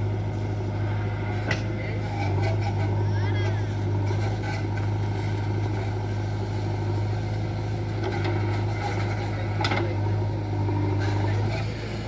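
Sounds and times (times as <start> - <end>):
diesel engine of heavy machinery: 0.0 - 12.0.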